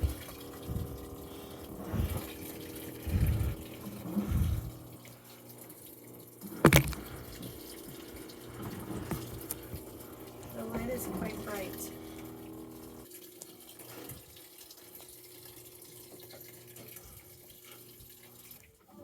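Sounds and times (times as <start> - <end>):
washing machine hum: 0.0 - 19.0
water sloshing in washing machine: 0.0 - 19.0.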